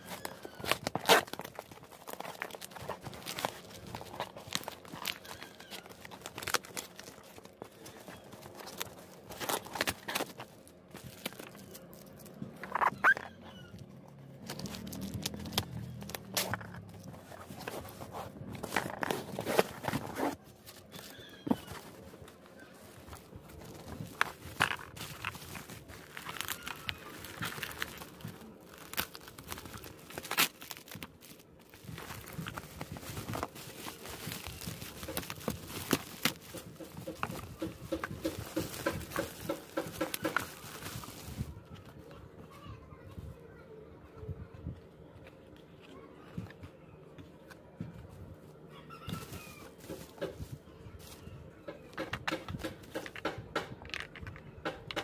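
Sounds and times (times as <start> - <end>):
plastic wrap rustling: 0.0 - 42.1, 48.0 - 54.5.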